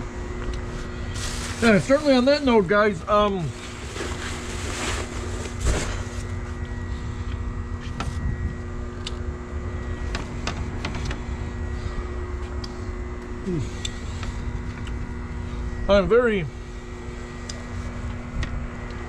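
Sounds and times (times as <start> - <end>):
mechanical rumble with hum: 0.0 - 19.0.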